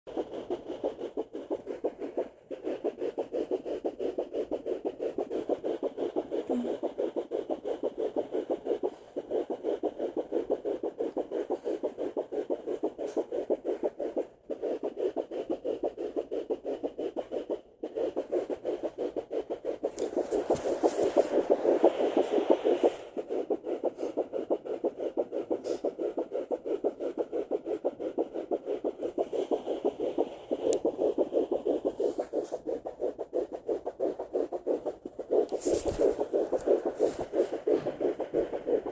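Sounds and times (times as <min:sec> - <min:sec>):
fetal heartbeat pulses on doppler: 0:00.1 - 0:38.9
probe rubbing noise: 0:00.1 - 0:38.9.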